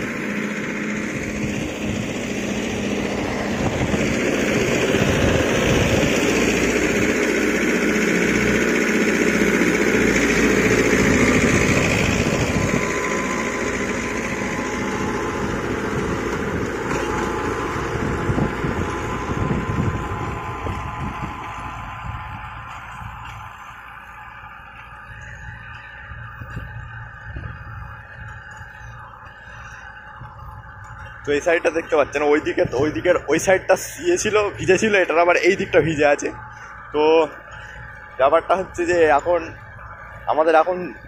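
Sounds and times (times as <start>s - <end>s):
rotavator tilling soil: 0.0s - 41.0s
tractor diesel engine running: 0.0s - 41.0s.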